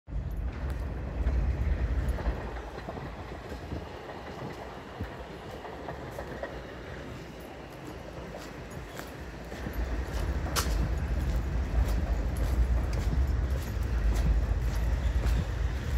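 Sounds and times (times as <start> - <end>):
elevated train rumbling: 0.1 - 15.9.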